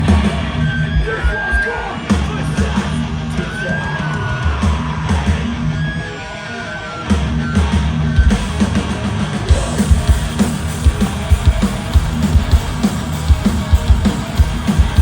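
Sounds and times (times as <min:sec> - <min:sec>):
thrash metal band playing: 0:00.0 - 0:15.0.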